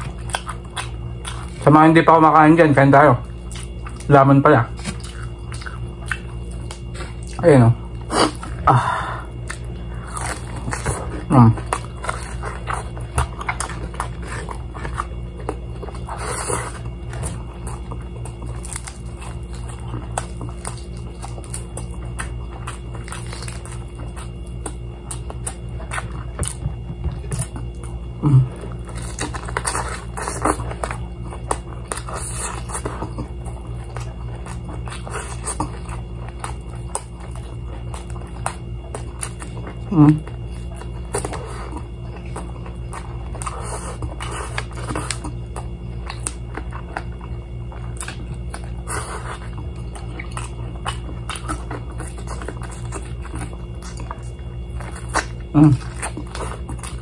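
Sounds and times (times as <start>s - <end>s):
chewing with small crunches: 0.0s - 57.0s
steady low hum: 0.0s - 57.0s.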